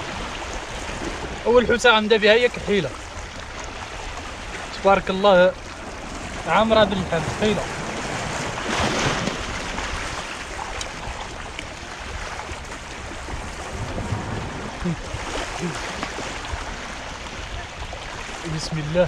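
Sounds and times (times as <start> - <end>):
sea surf washing ashore: 0.0 - 19.0.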